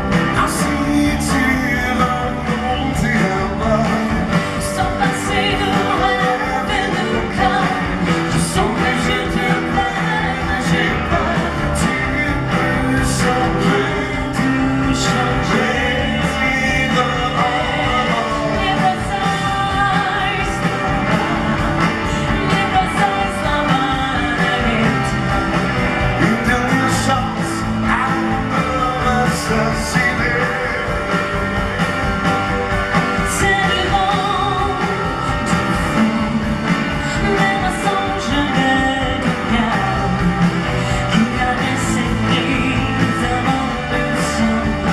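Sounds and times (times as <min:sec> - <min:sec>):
pop duet singing: 0:00.0 - 0:31.8, 0:32.9 - 0:44.9
full band playing: 0:00.0 - 0:44.9.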